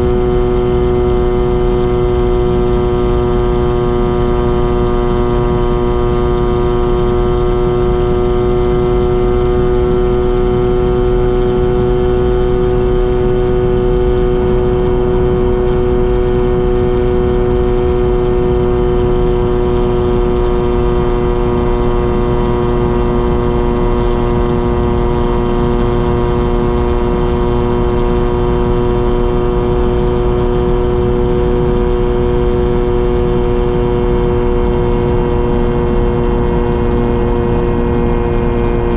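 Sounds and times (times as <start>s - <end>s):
rotary engine exhaust: 0.0s - 38.9s.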